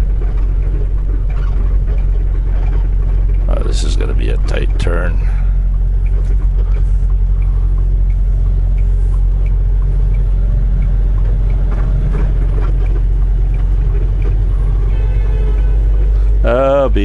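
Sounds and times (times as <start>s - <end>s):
diesel engine running: 0.0s - 17.0s
turn signal ticking: 0.0s - 17.0s.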